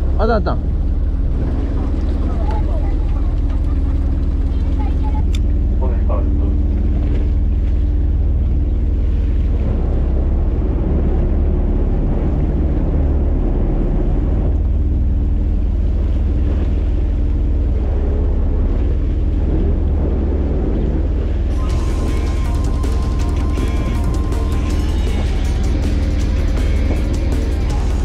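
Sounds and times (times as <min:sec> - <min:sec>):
boat engine rumbling: 0:00.0 - 0:28.0
water washing along hull: 0:00.0 - 0:28.0.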